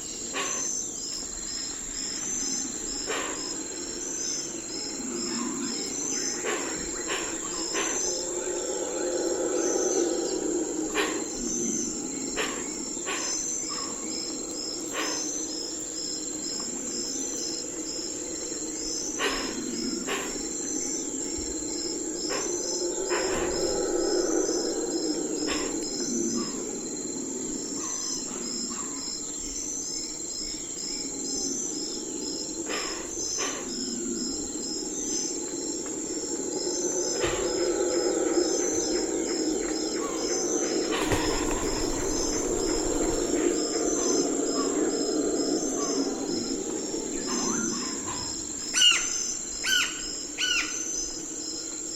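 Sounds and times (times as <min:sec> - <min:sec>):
crickets chirping: 0:00.0 - 0:51.9
insect trill: 0:00.0 - 0:51.9
low hum: 0:03.7 - 0:29.7, 0:30.4 - 0:49.2.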